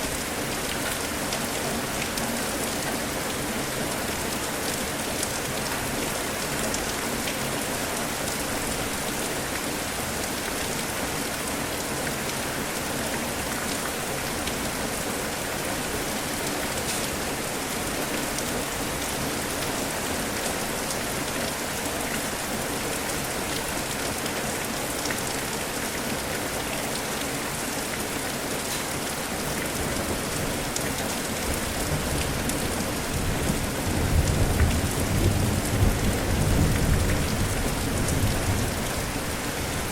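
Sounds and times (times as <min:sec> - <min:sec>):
steady rain with drop ticks: 0:00.0 - 0:39.9.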